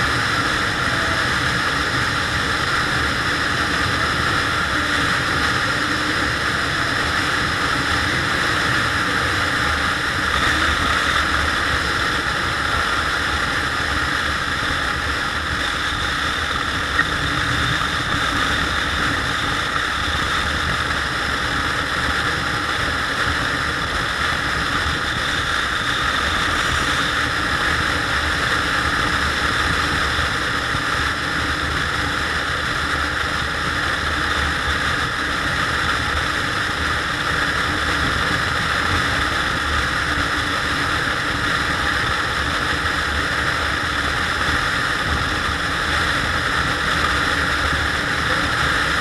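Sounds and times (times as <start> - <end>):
scooter engine cruising: 0.0 - 49.0
wind noise on microphone: 0.0 - 49.0.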